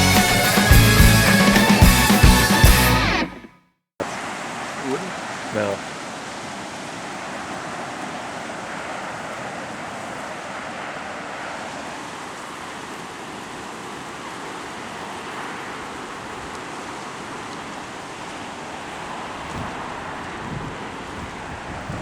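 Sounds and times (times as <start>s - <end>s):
waterfall roaring: 4.0s - 22.0s.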